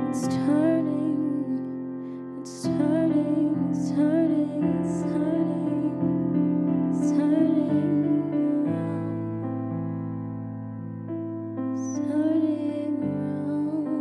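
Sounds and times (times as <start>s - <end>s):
woman singing softly: 0.0s - 9.7s, 11.8s - 14.0s.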